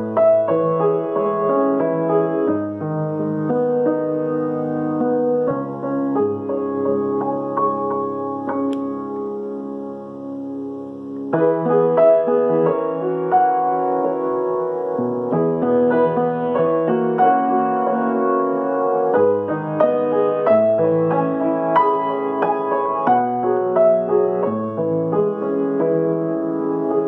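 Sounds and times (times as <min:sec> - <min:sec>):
solo piano: 0:00.0 - 0:27.0.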